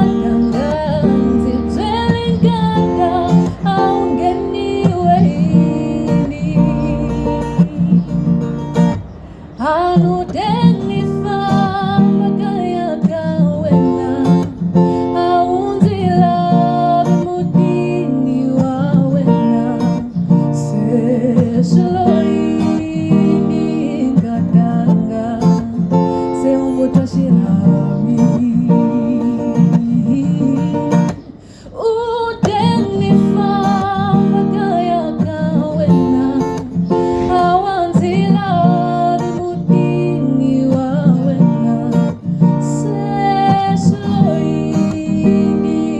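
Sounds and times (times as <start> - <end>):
person singing: 0.0 - 8.7, 9.6 - 45.9
plucked strummed guitar: 0.0 - 45.9.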